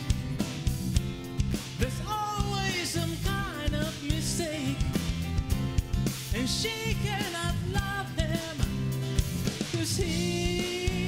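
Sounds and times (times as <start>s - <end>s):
live rock band playing slow song: 0.0s - 11.0s.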